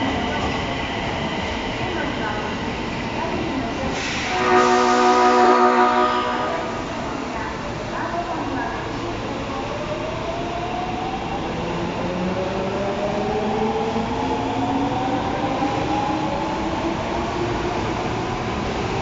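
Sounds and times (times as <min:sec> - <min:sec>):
rumble of train cars: 0:00.0 - 0:19.0
subway train motors whining: 0:00.0 - 0:19.0.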